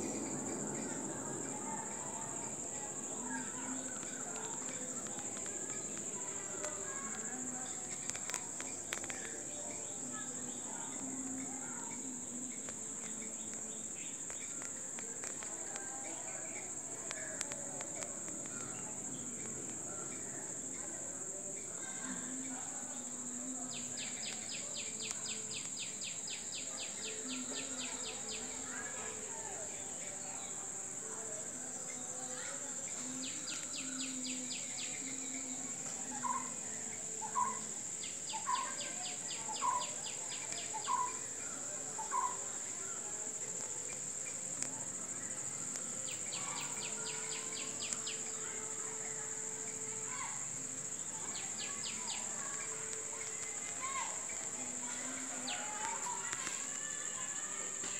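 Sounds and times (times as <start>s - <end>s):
rapid insect pulsing: 0.0s - 57.8s
high-pitched insect trill: 0.0s - 57.9s.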